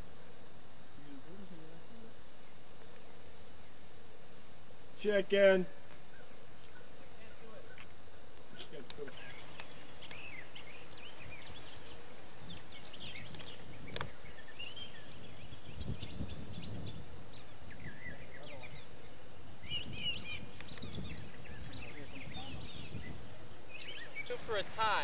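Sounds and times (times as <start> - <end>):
outdoor hiss: 0.0 - 25.0
birds chirping: 1.0 - 25.0.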